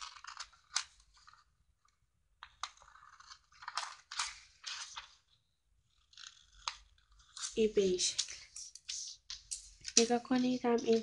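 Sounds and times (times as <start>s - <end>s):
paper rustling: 0.0s - 2.0s, 2.6s - 11.0s.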